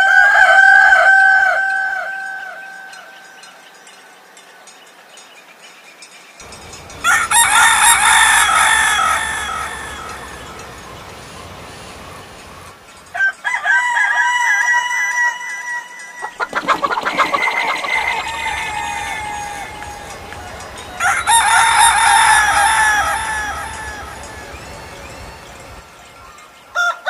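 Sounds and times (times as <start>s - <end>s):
roosters crowing: 0.0s - 3.1s, 6.4s - 27.0s.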